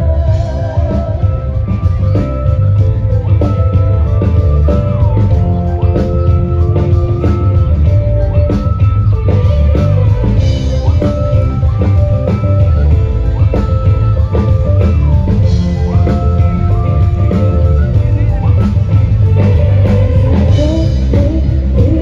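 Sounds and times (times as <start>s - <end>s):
live band music over pa: 0.0s - 22.0s.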